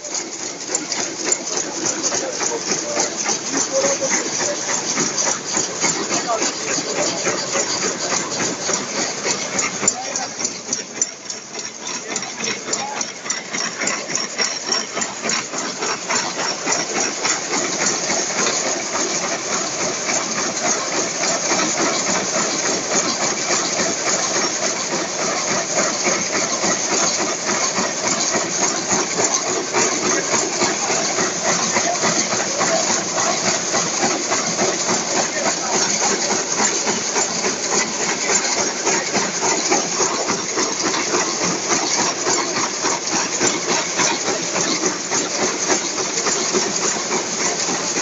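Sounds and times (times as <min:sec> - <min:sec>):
loom clattering: 0:00.0 - 0:48.0.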